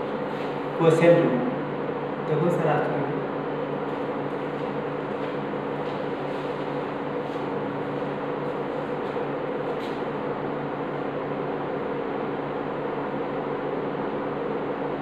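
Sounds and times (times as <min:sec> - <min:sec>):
room fan humming: 0:00.0 - 0:15.0.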